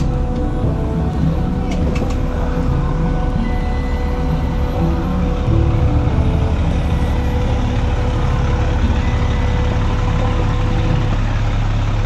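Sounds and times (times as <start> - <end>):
faint steady hum: 0.0 - 12.0
vehicle engine running: 0.0 - 12.0.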